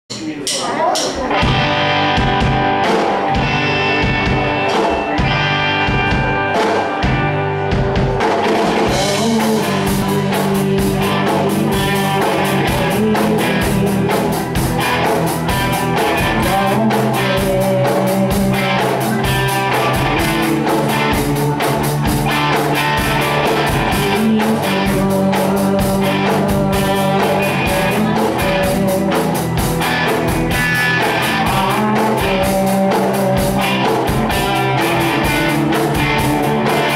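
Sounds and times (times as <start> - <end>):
bass guitar: 0.1 - 36.9
drums and cymbals: 0.1 - 36.9
keyboards: 0.1 - 36.9
electric guitars: 1.0 - 36.9.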